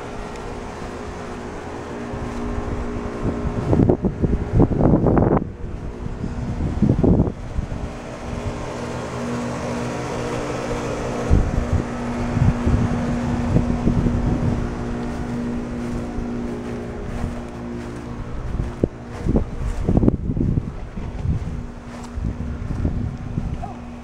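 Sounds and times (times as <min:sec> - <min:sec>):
motor humming: 0:00.0 - 0:24.0
wind rumbling on microphone: 0:00.0 - 0:24.0.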